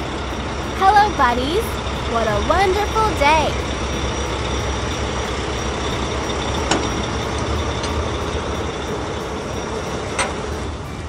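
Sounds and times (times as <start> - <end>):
heavy truck engine humming: 0.0 - 11.0.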